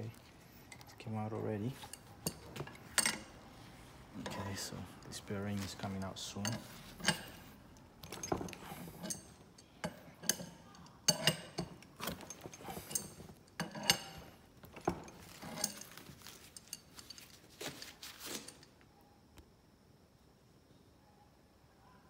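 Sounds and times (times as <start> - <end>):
metallic clicks and clinks: 0.0 - 3.4, 4.2 - 18.8.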